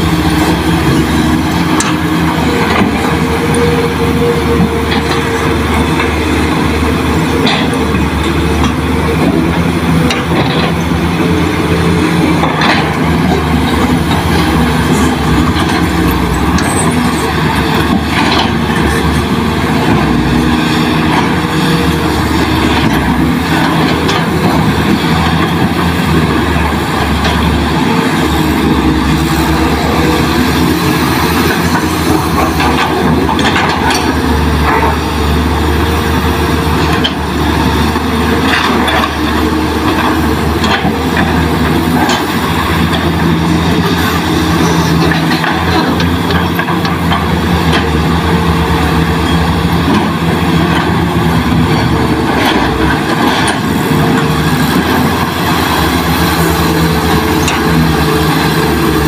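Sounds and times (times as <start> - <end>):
excavator diesel engines droning: 0.0 - 59.0.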